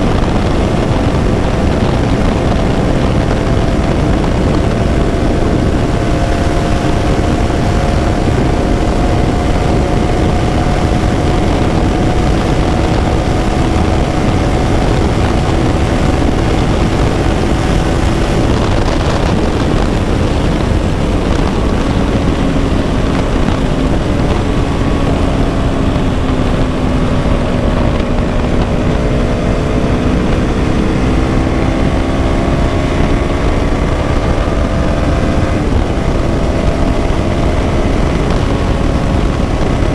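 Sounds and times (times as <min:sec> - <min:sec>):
loud steady rushing noise: 0:00.0 - 0:39.9
motorcycle engine running: 0:00.0 - 0:39.9.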